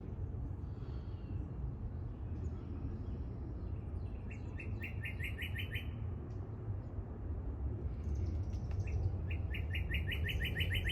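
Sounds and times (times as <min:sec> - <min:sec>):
steady low rumble: 0:00.0 - 0:04.6, 0:05.9 - 0:10.9.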